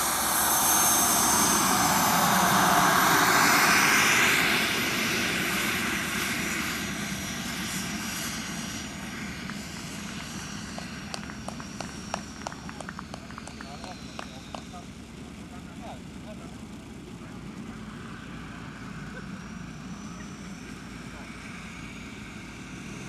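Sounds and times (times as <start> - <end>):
model jet turbine whine: 0.0 - 23.0.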